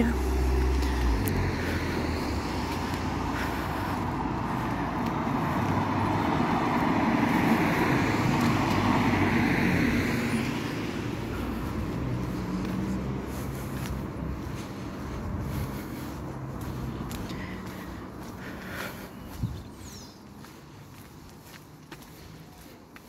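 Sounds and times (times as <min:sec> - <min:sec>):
vehicle passing: 0:00.0 - 0:23.0.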